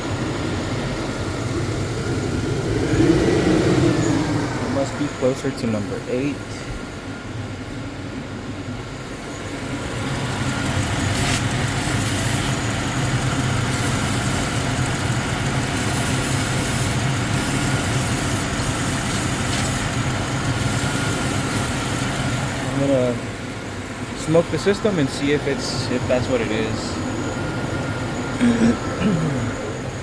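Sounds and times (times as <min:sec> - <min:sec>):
engine idling with misfire: 0:00.0 - 0:30.0.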